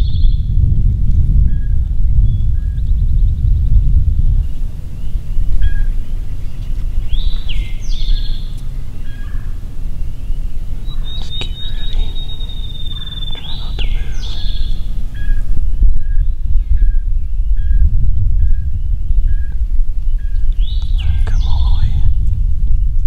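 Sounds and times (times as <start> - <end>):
songbirds singing: 0.0 - 0.6, 1.3 - 23.0
steady low rumble: 0.0 - 23.0.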